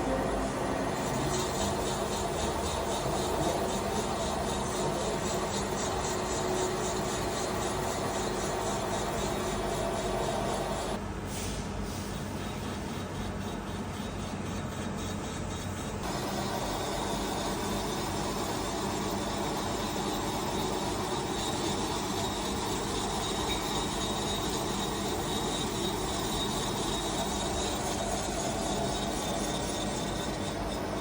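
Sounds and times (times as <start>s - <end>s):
boring machine cutting metal: 0.0s - 11.0s, 13.2s - 31.0s.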